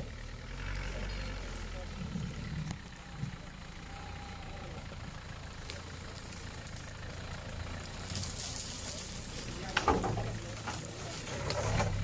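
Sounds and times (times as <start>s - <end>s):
truck engine at low revs: 0.0s - 12.0s.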